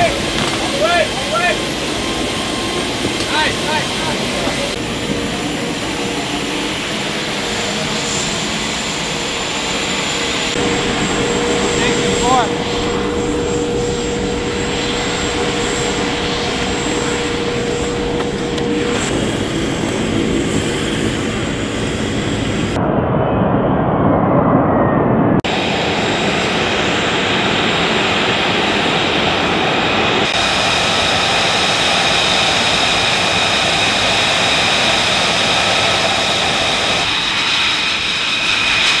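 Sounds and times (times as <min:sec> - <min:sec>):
aircraft engine roar: 0:00.0 - 0:39.0
jet engine deep roar: 0:00.0 - 0:39.0
turbine whine: 0:00.0 - 0:39.0.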